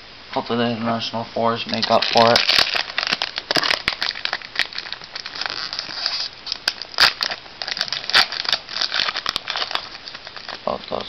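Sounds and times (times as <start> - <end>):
foil wrapper crinkling: 1.6 - 11.0.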